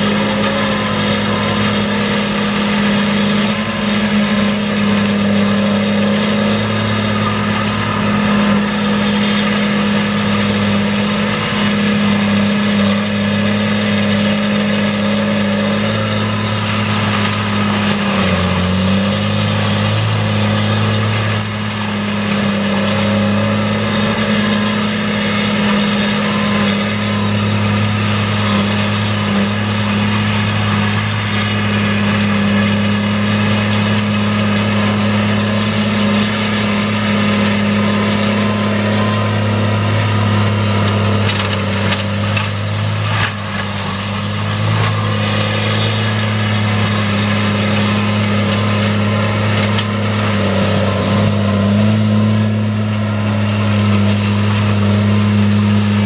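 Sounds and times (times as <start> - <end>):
forestry mulcher running: 0.0 - 56.0.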